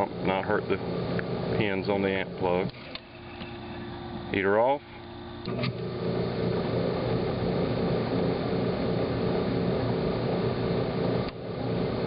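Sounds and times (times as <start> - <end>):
hot tub pump motor humming: 0.0 - 12.0.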